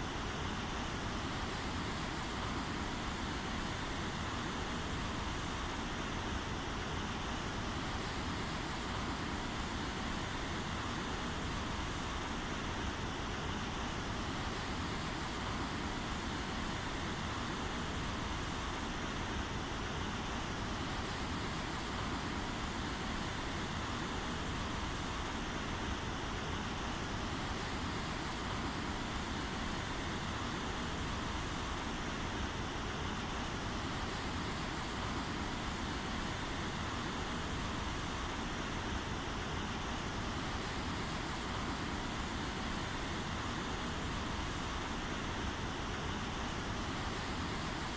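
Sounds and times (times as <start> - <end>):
steady rainfall hiss: 0.0 - 47.9.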